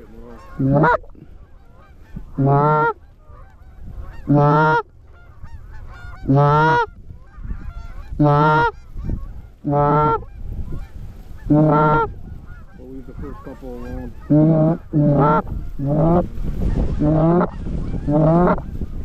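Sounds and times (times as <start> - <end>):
distant flock of geese calling: 0.0 - 19.0
goose call low honks: 0.2 - 16.2, 16.9 - 18.7.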